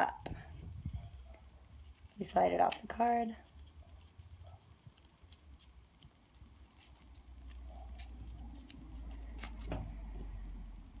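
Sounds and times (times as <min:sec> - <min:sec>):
rustling of thread bundle: 0:00.2 - 0:11.0.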